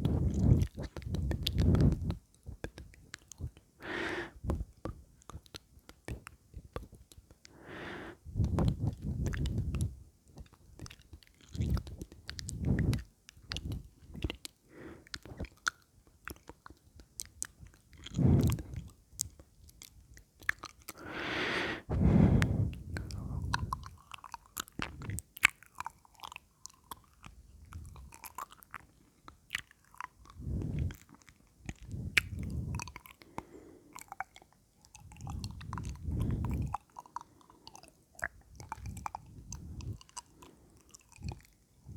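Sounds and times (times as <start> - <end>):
asmr mouth sounds: 0.0 - 19.4, 20.4 - 41.9.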